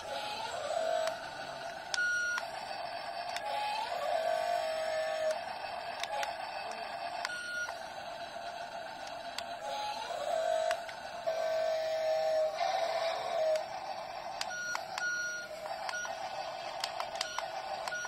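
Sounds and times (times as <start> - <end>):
motor clicks: 0.0 - 7.8, 8.4 - 11.5, 12.5 - 18.0
toy excavator digging sand: 0.0 - 18.0
toy gear motors whirring: 0.0 - 18.0.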